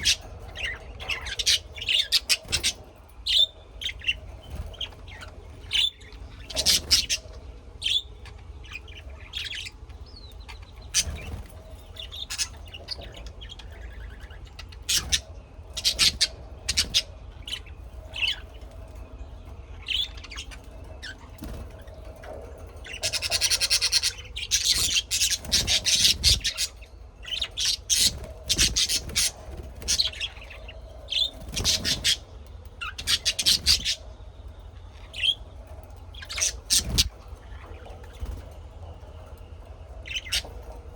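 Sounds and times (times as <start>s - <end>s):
birds chirping: 0.0s - 40.9s
steady low hum: 0.0s - 40.9s.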